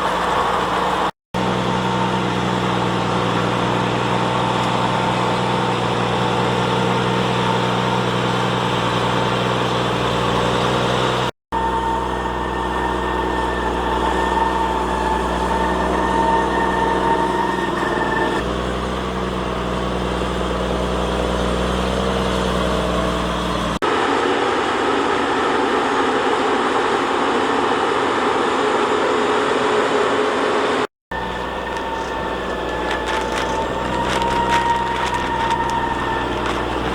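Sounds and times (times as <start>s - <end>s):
tractor engine drone with whine: 0.0s - 36.9s.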